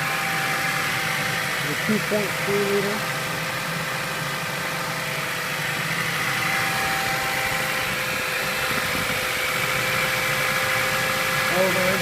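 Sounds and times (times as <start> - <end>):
car engine idling with whine: 0.0 - 12.0.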